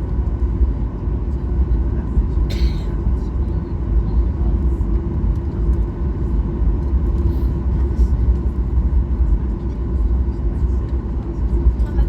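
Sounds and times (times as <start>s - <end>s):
airplane cabin low rumble: 0.0s - 12.0s
constant hum: 0.0s - 12.0s.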